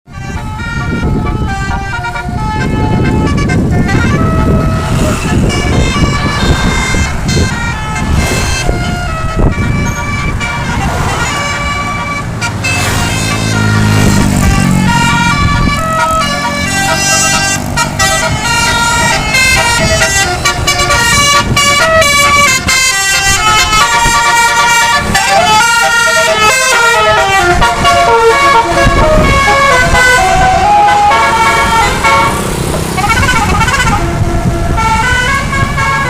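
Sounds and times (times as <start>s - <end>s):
bus engine rumble: 0.1s - 36.0s
tuned air horn melody: 0.1s - 36.0s.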